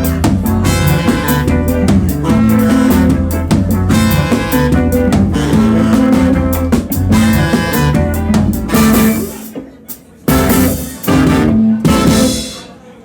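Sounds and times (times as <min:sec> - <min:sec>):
bass guitar: 0:00.0 - 0:09.5, 0:10.3 - 0:12.6
drum kit: 0:00.0 - 0:12.8
guitar: 0:00.0 - 0:12.8.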